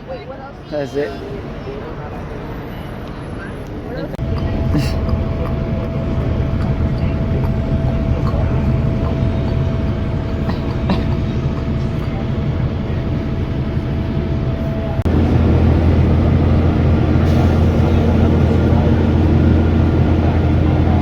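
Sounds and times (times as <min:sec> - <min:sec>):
vehicle low rumble: 0:01.3 - 0:21.0
constant whine: 0:03.0 - 0:21.0.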